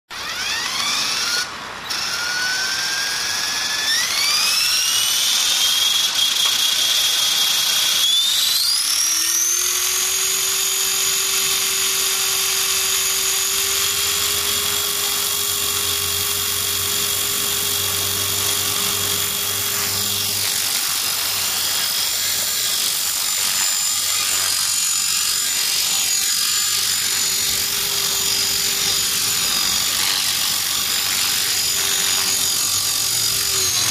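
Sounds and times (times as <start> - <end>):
electric motor whine: 0.1 - 33.9.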